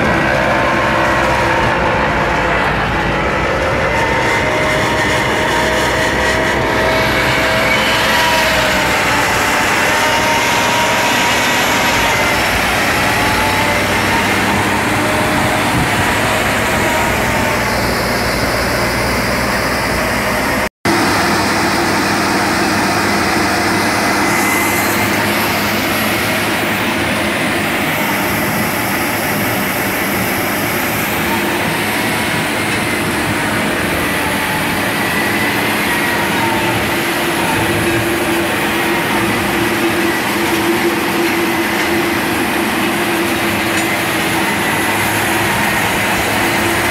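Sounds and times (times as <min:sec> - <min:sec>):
tractor engine and machinery drone: 0:00.0 - 0:46.9.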